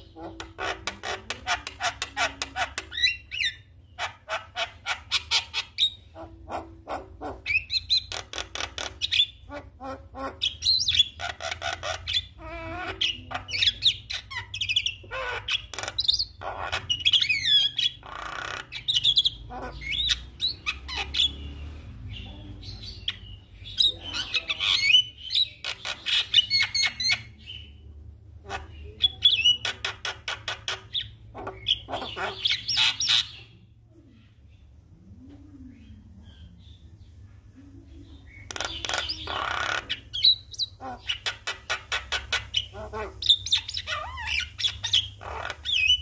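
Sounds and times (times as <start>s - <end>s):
bird chattering: 0.0s - 33.6s, 38.0s - 46.0s.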